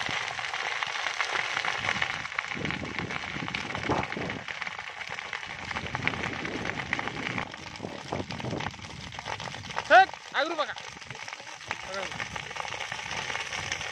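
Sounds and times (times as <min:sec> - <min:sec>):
fire crackling and popping: 0:00.0 - 0:13.9
rush of flames: 0:00.0 - 0:13.9.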